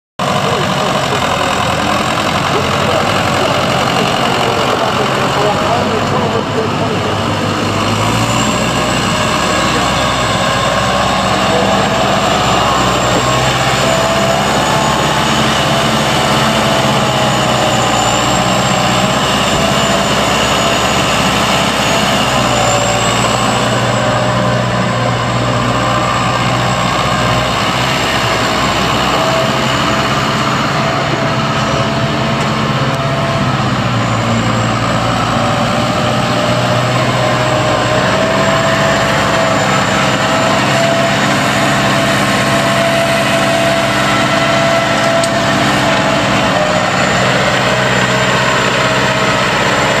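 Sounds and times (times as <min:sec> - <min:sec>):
tractor diesel engine running: 0:00.2 - 0:50.0.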